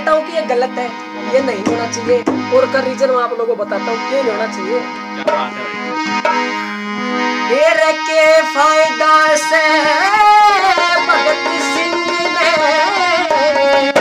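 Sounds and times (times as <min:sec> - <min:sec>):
harmonium notes and chords: 0:00.0 - 0:14.0.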